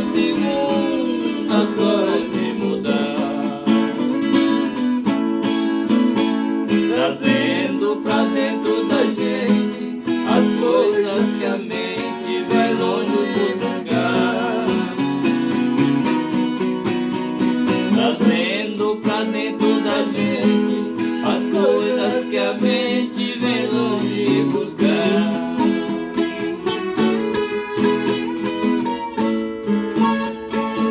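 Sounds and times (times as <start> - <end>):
plucked guitar folk music: 0.0 - 30.9.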